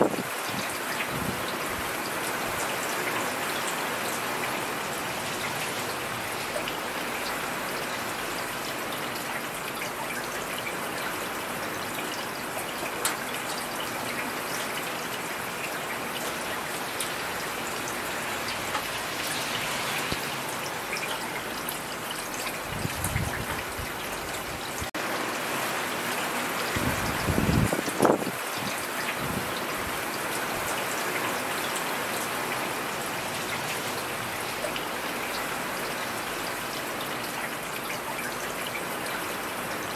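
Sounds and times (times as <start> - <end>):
raindrops tapping surfaces: 0.0 - 39.9
steady rain hiss: 0.0 - 39.9.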